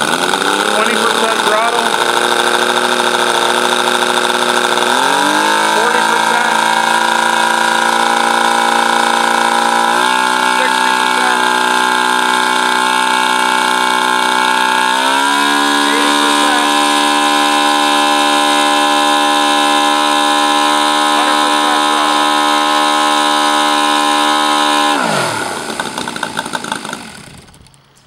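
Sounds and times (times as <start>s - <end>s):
model aircraft engine and propeller: 0.0s - 28.0s.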